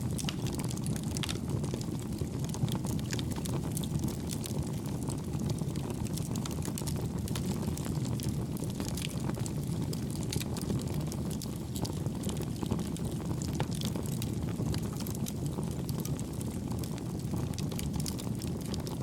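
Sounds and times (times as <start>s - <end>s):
light crackles and pops: 0.0s - 19.0s
low rushing of flame: 0.0s - 19.0s.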